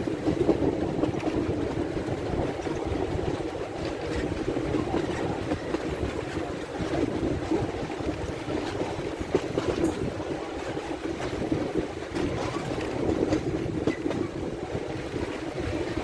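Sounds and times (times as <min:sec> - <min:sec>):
ticks of wheels on rails: 0:00.0 - 0:16.0
train rumbling along track: 0:00.0 - 0:16.0.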